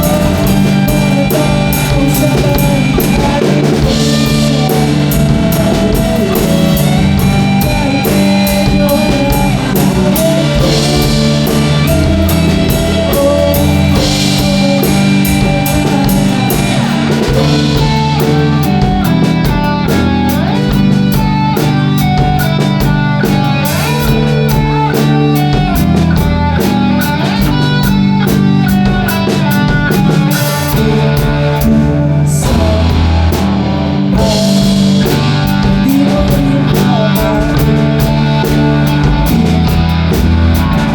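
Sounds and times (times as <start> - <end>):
rock band music: 0.0 - 40.9.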